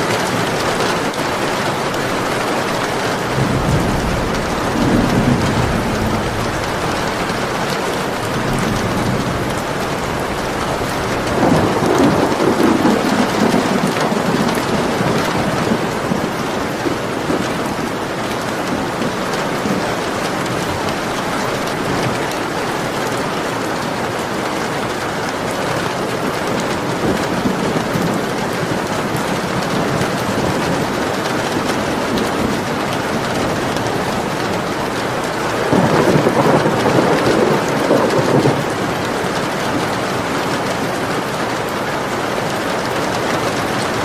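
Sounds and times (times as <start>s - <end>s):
thunder rolling: 0.0s - 23.1s, 26.5s - 40.0s
heavy rain: 0.0s - 44.0s.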